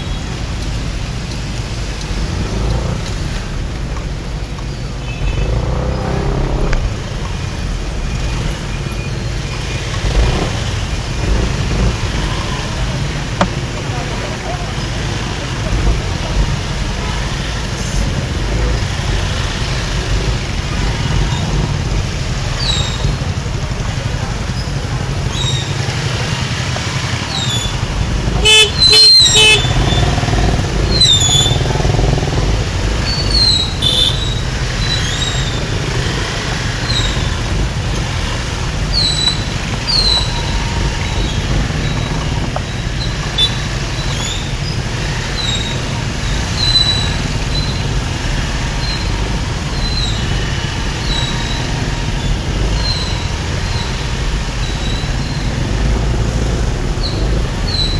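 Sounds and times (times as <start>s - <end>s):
motorcycle engine and road rumble: 0.0s - 57.9s.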